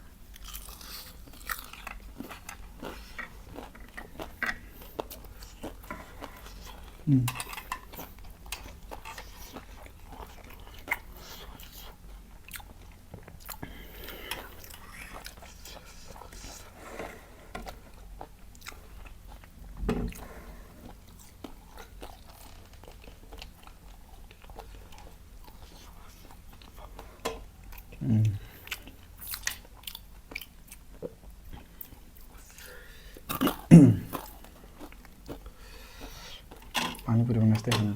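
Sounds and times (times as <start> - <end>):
crunchy chewing: 0.1 - 37.9.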